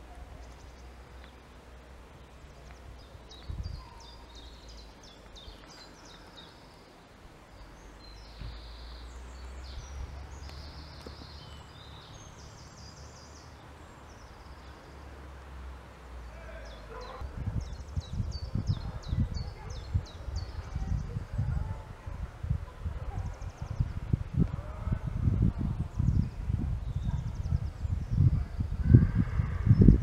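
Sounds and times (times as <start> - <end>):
songbirds chirping and trilling: 0.0 - 30.0.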